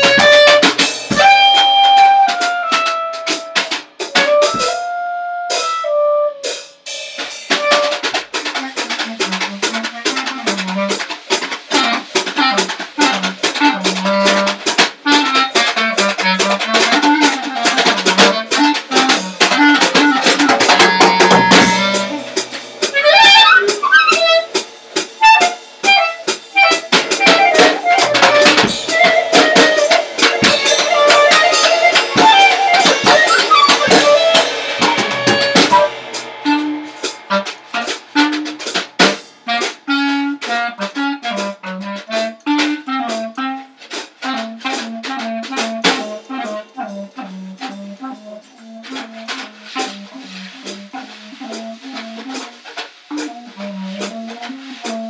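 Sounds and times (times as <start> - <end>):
clarinet playing held notes: 0.0 - 6.8, 7.5 - 11.0, 11.7 - 24.6, 25.2 - 38.8, 39.5 - 55.0
busy drumming with cymbals: 0.0 - 55.0.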